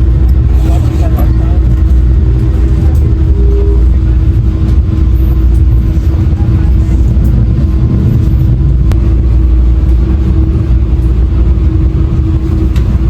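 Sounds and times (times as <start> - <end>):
constant hum: 0.0 - 13.0
moving vehicle rumble: 0.0 - 13.0.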